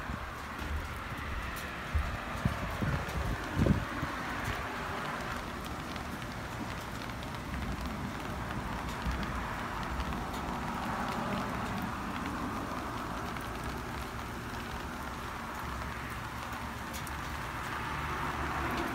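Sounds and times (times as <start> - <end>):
heavy rain falling: 0.0 - 18.9
raindrop taps: 0.0 - 18.9.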